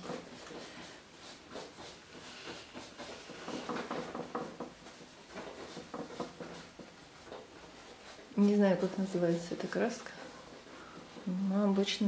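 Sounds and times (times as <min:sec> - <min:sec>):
paintbrush tapping and scraping: 0:00.0 - 0:12.0.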